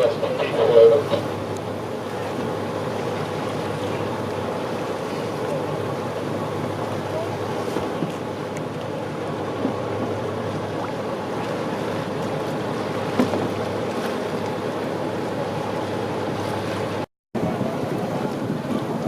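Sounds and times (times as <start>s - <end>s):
motorboat engine running: 0.0s - 19.0s
water noise: 0.0s - 19.0s
wind: 0.0s - 19.0s.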